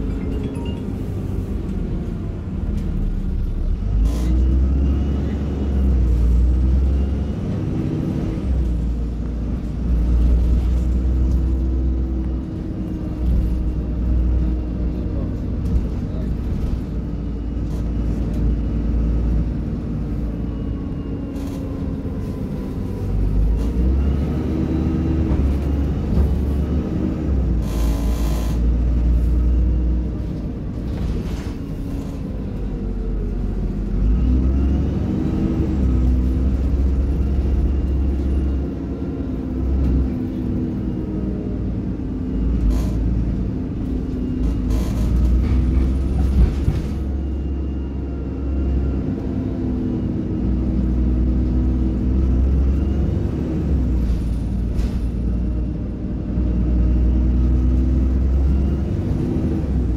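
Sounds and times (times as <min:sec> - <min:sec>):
bus engine rumbling: 0:00.0 - 0:59.9.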